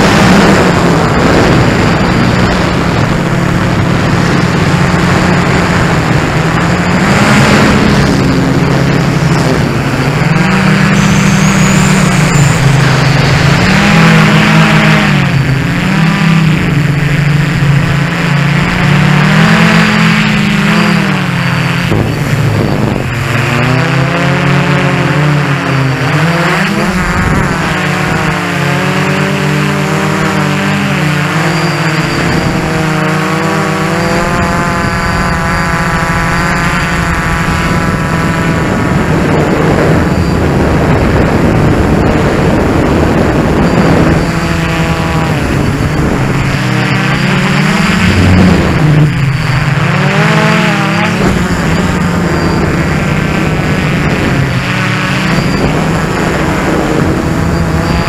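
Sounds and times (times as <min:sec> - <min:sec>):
quadcopter motors humming: 0:00.0 - 0:58.0.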